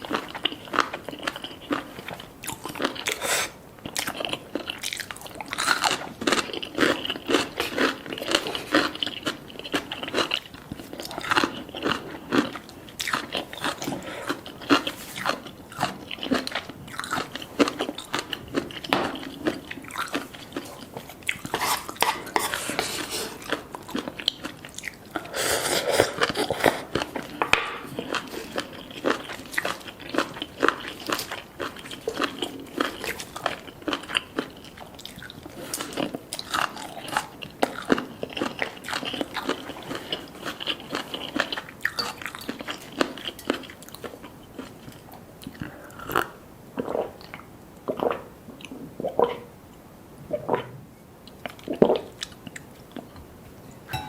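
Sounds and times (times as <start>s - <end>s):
crunchy chewing: 0.0s - 48.8s.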